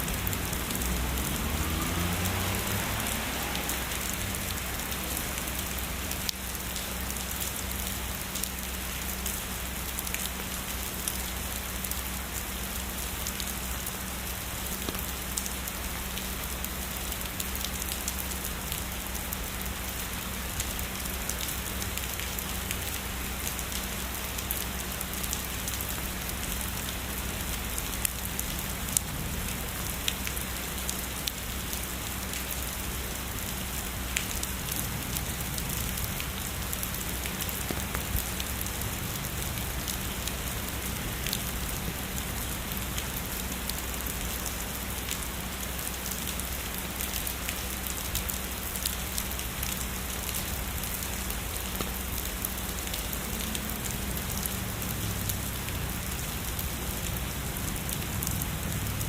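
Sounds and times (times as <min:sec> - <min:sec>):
heavy rain: 0:00.0 - 0:59.0
raindrops tapping on a surface: 0:00.0 - 0:59.0.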